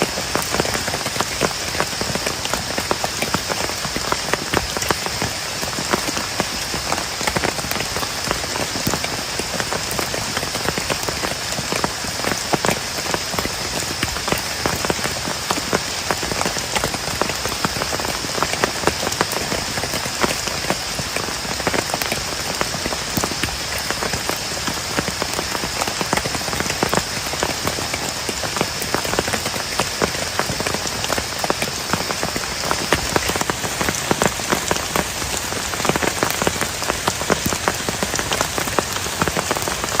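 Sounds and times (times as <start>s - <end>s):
heavy rain on plastic tarp: 0.0s - 40.0s.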